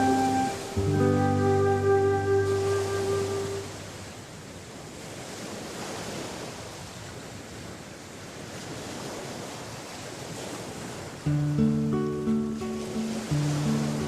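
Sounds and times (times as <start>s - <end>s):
sea waves breaking on shore: 0.0s - 14.0s.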